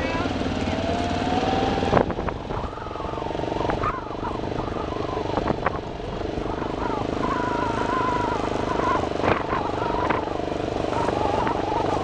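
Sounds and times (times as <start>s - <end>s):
vehicle engine running: 0.0s - 12.0s
wavering whine: 0.0s - 12.0s.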